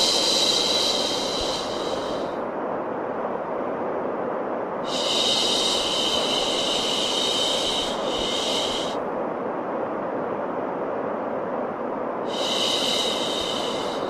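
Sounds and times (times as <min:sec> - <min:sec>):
steady white noise: 0:00.0 - 0:14.0.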